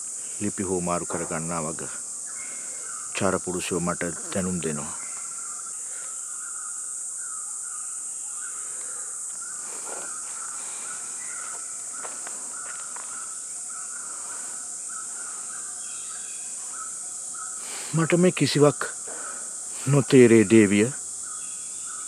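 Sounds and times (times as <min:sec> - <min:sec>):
insect drone: 0:00.0 - 0:22.0
pulsing insect chirp: 0:00.0 - 0:22.0.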